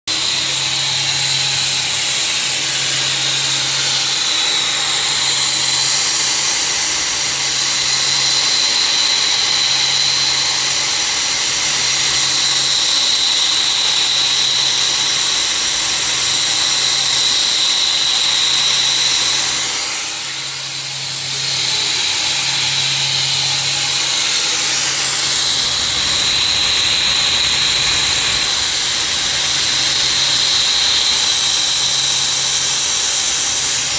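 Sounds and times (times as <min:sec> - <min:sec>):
router spindle high whine: 0:00.1 - 0:33.9.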